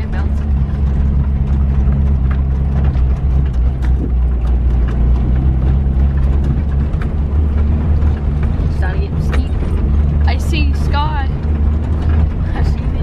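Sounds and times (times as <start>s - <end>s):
car engine running while driving: 0.0s - 13.0s
light knocks and rattles: 0.0s - 13.0s.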